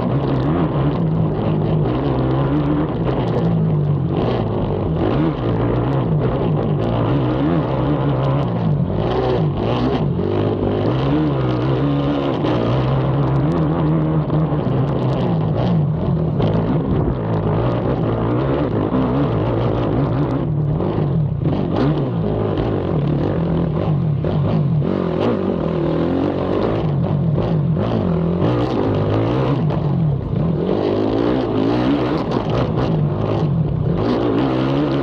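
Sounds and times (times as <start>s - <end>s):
quad bike engine revving: 0.0s - 35.0s.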